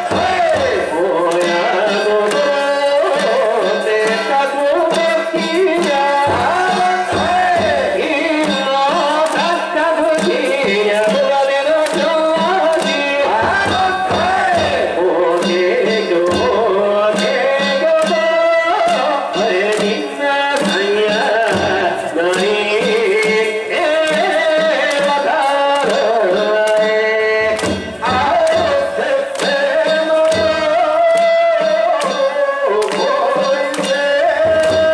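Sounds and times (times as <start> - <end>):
drum beaten in rhythm: 0.0 - 34.9
voices singing or chanting: 0.0 - 34.9.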